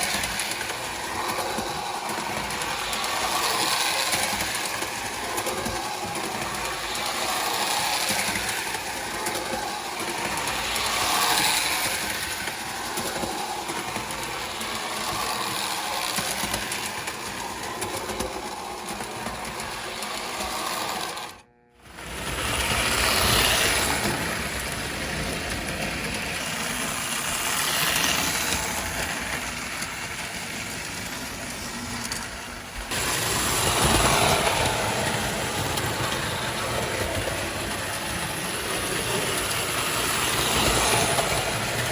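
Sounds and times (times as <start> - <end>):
model train motor whir: 0.0 - 41.9
wheel and rail clatter: 0.0 - 41.9.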